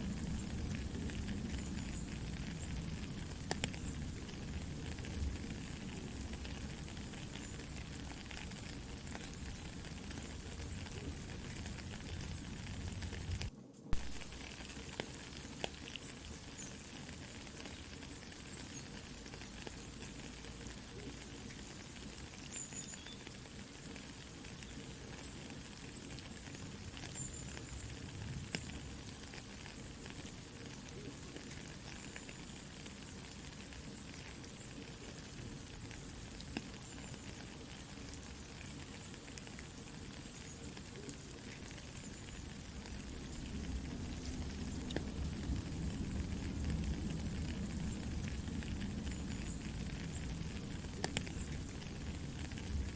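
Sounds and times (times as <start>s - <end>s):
campfire crackling: 0.0s - 52.9s
soft steady rain: 0.0s - 52.9s.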